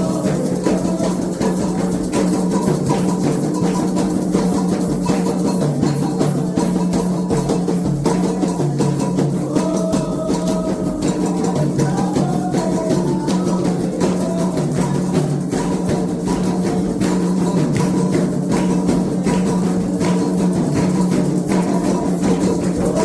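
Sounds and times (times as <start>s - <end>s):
voices singing: 0.0s - 3.4s, 5.4s - 23.0s
hand drums playing fast rhythm: 0.0s - 23.0s.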